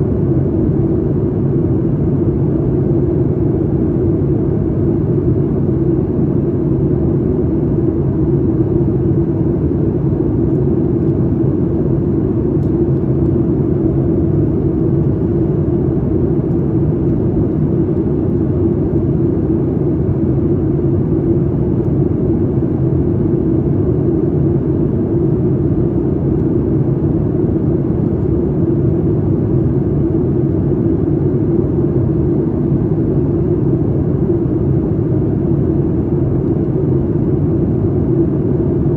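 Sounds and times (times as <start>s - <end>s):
airplane cabin low drone: 0.0s - 38.9s.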